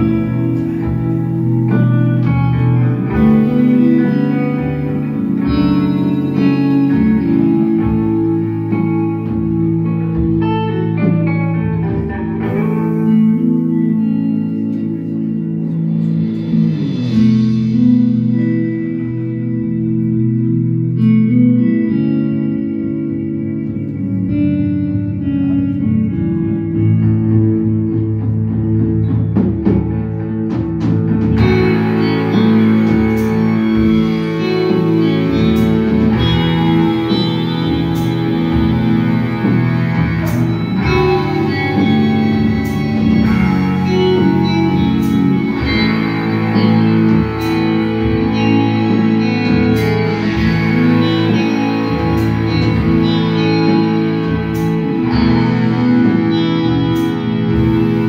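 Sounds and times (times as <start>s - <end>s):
bass guitar: 0.0s - 58.0s
drums: 0.0s - 58.0s
electric guitar chords: 0.0s - 58.0s.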